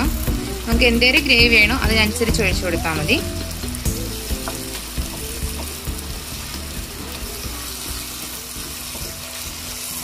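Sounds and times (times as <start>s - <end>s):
curry sizzling in a frying pan: 0.0s - 10.0s.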